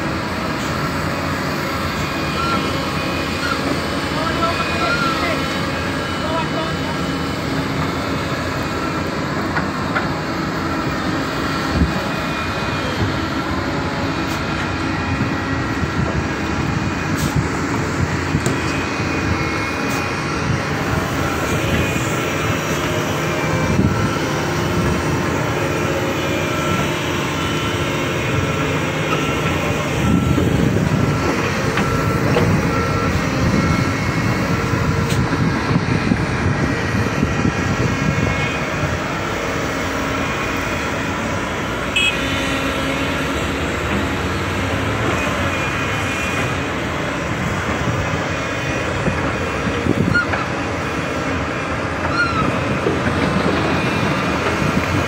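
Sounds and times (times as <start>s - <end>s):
excavator diesel engines droning: 0.0s - 55.0s.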